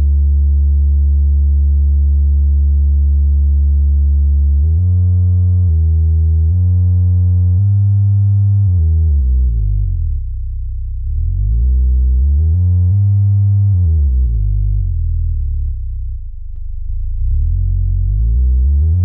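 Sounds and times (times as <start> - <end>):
subwoofer bass test tone: 0.0 - 19.0.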